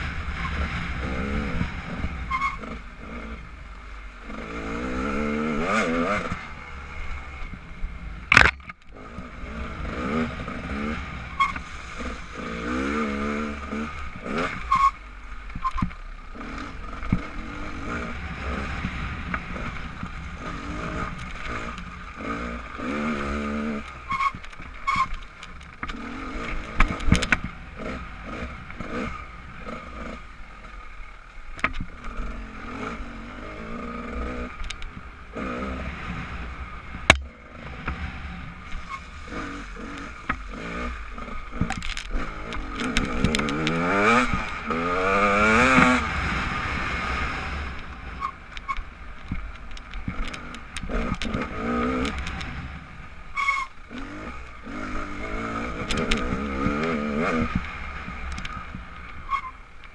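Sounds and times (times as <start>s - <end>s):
motorcycle engine revving: 0.0s - 31.0s, 31.6s - 59.9s.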